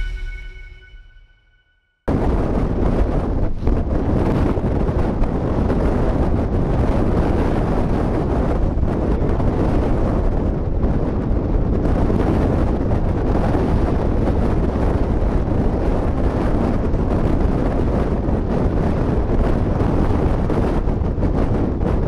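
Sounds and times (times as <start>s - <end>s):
strong wind on microphone: 0.0s - 1.3s, 2.1s - 22.0s.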